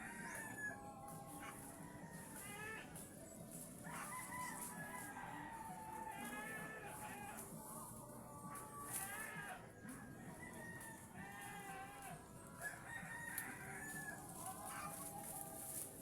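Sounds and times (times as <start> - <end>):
chickens clucking and crowing: 0.0 - 16.0.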